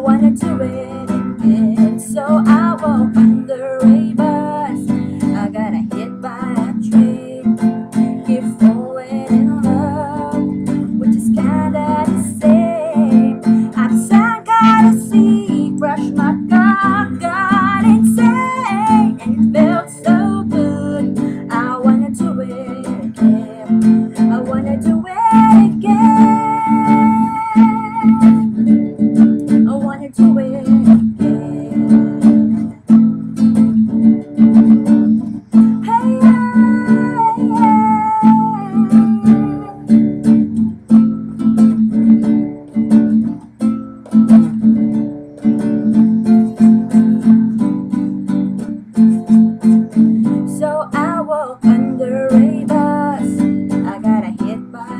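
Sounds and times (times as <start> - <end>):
acoustic guitar: 0.0 - 54.9
wordless sung notes: 0.0 - 54.9.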